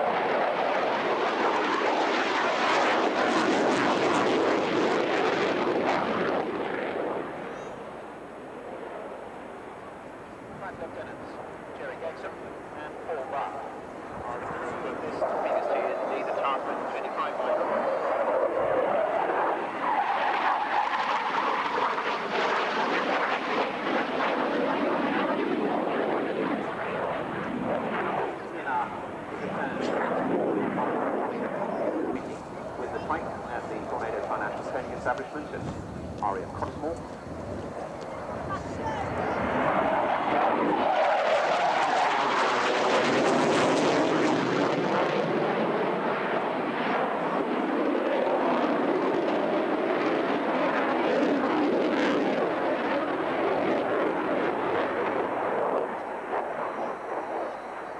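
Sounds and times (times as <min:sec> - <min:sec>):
military jet engines roaring: 0:00.0 - 0:57.9.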